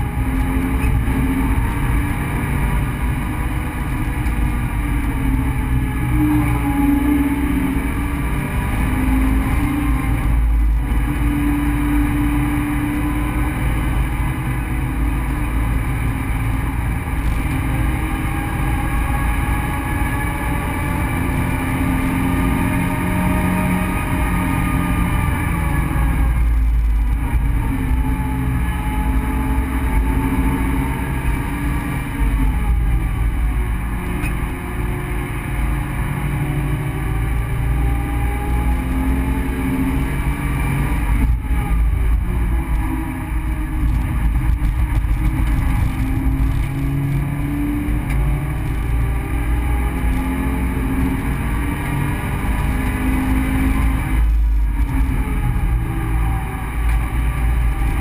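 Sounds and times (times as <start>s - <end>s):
car engine accelerating: 0.0s - 58.0s
road and wind rumble: 0.0s - 58.0s.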